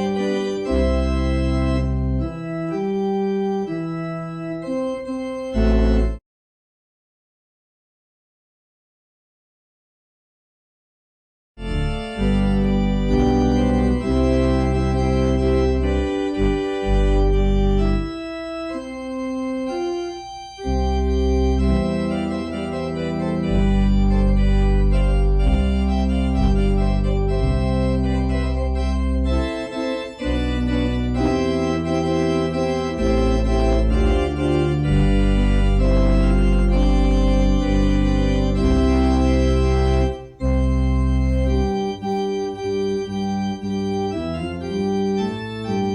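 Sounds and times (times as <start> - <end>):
organ music: 0.0 - 6.2, 11.6 - 45.9.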